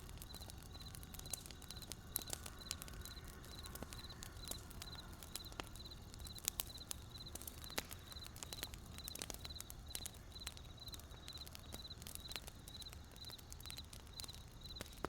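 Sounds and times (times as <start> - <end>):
campfire crackling: 0.0 - 15.0
crickets chirping: 0.1 - 15.0.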